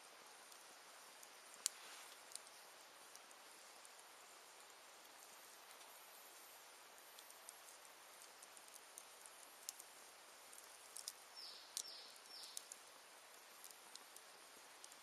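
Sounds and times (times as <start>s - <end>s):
faint hiss: 0.0s - 15.0s
wood fire crackling and popping: 0.2s - 15.0s.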